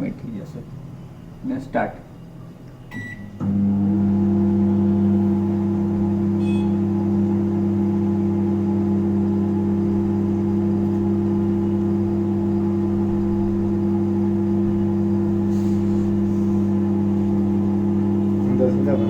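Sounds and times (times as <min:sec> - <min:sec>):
microwave oven humming: 0:00.7 - 0:19.0.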